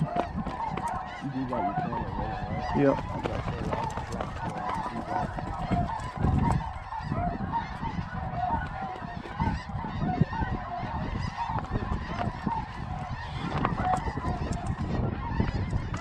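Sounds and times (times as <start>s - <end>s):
geese honking: 0.0s - 16.0s
wind on microphone: 0.0s - 16.0s.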